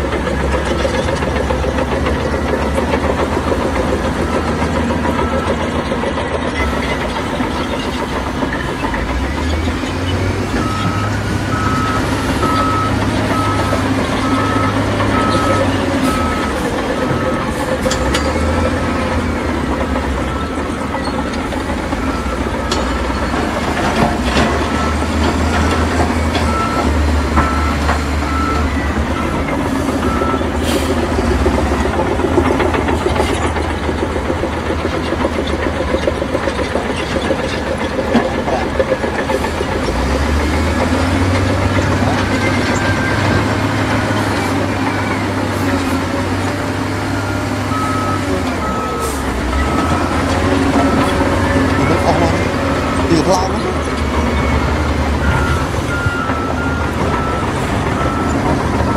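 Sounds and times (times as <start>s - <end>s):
diesel machinery running: 0.0s - 58.9s
reversing alarm beeping: 0.4s - 33.7s, 37.8s - 58.9s.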